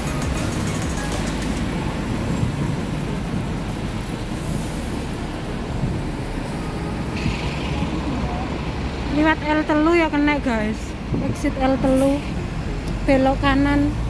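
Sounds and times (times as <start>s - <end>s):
bus engines running: 0.0s - 14.0s
city traffic rumble: 0.0s - 14.0s.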